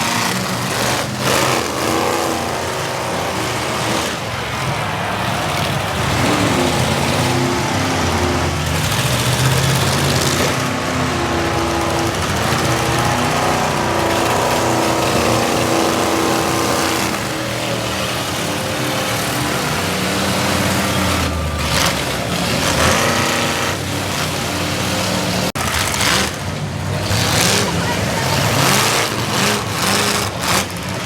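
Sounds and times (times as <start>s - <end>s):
car engines revving: 0.0s - 31.0s
loud noisy bursts: 0.0s - 31.0s.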